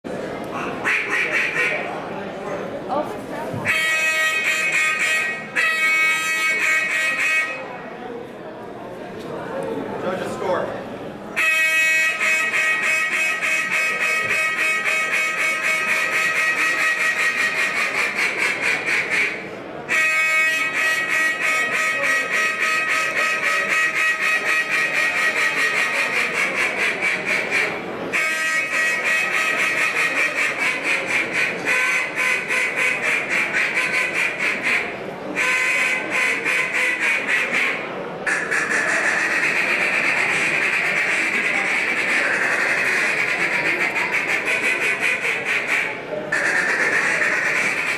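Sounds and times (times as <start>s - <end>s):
duck call rapid quacking: 0.6s - 1.9s, 3.6s - 7.7s, 11.4s - 47.9s.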